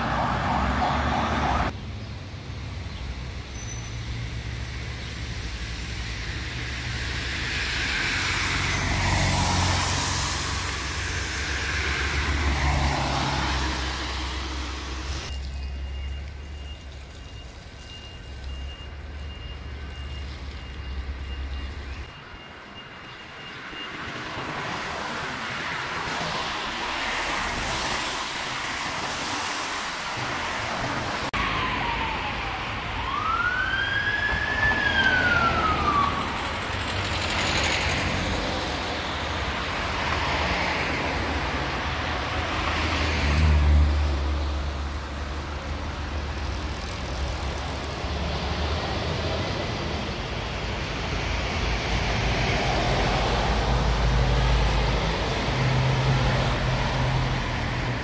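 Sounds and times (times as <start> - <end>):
cars passing: 0.0 - 16.6, 18.4 - 58.0.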